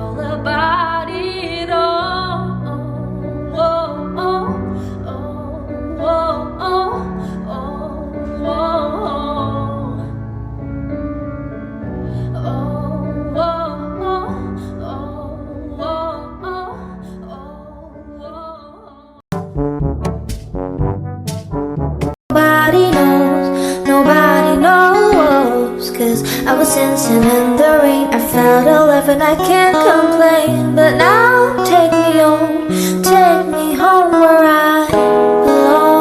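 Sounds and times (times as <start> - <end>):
woman singing: 0.0 - 10.1, 12.3 - 19.2, 22.3 - 36.0
piano accompaniment: 0.0 - 18.7, 19.3 - 36.0.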